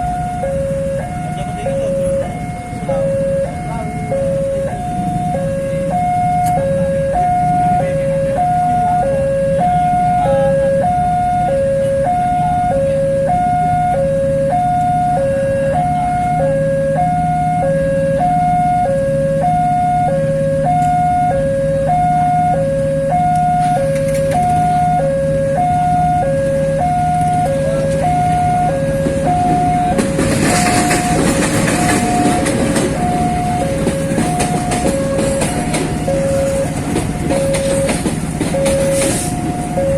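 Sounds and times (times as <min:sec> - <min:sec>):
level crossing alarm two-tone: 0:00.0 - 0:39.9.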